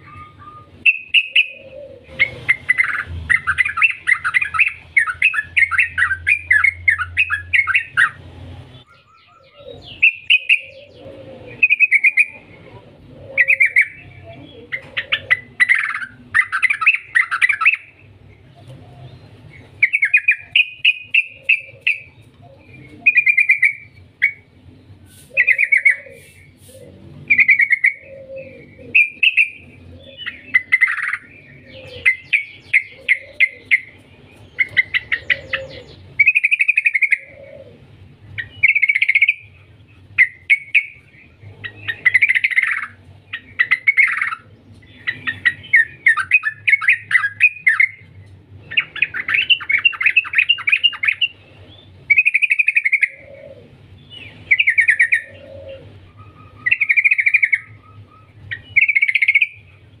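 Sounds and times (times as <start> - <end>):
bird singing chattering trills: 0.0 - 60.0.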